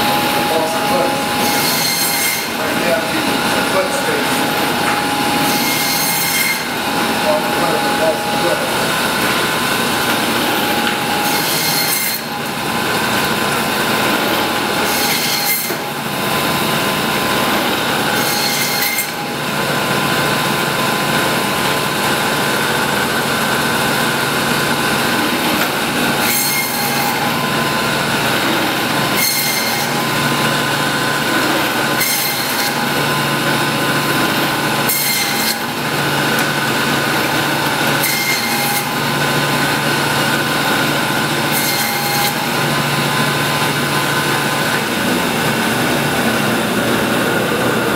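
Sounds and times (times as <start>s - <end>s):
band saw blade whine: 0.0s - 47.9s.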